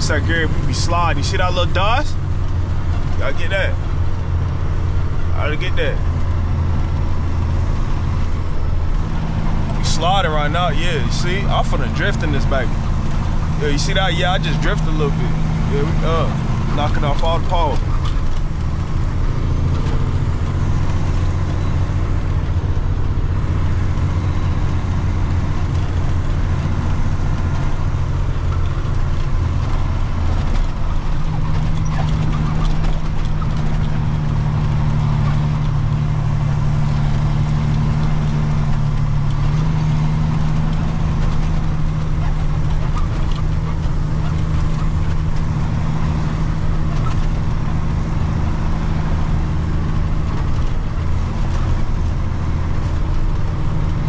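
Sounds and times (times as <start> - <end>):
truck engine running under load: 0.0 - 54.0.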